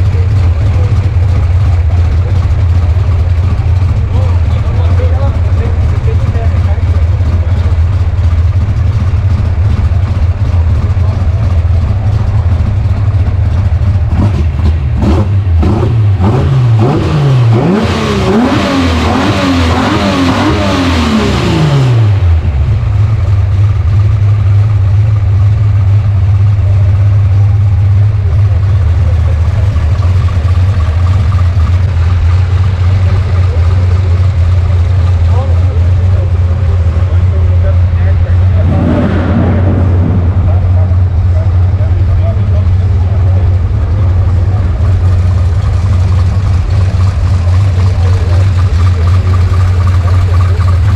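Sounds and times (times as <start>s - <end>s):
car engine idling and revving: 0.0s - 50.9s.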